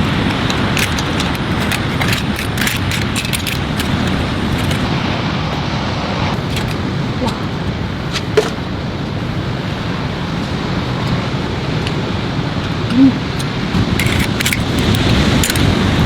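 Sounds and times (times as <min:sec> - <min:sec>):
heavy rain roaring: 0:00.0 - 0:16.0
wind: 0:00.0 - 0:16.0.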